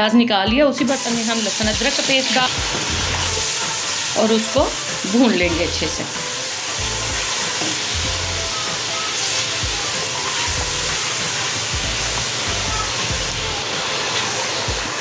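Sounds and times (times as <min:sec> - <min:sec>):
paste sizzling in hot oil: 0:00.9 - 0:15.0.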